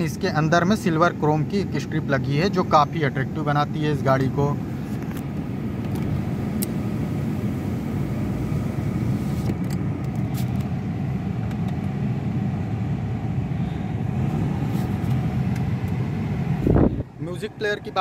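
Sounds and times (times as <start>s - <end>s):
low cabin hum: 0.0s - 18.0s.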